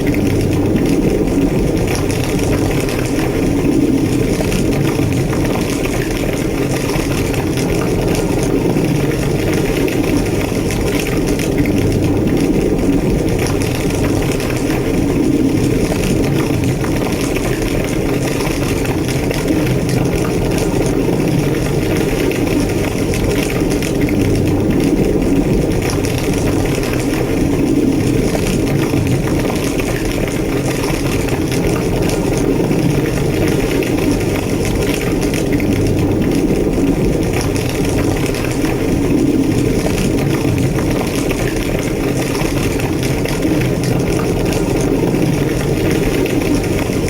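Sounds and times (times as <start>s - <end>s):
building fire roaring: 0.0s - 47.0s
faint fire crackles: 0.0s - 47.0s.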